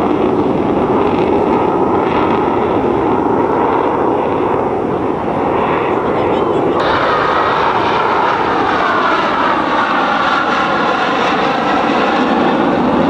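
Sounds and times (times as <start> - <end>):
jet engine flying overhead: 0.0 - 13.0.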